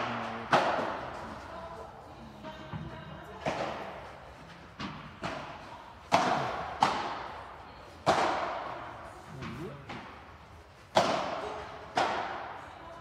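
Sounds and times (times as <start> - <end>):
ball hitting rackets: 0.0 - 1.2, 3.4 - 12.6.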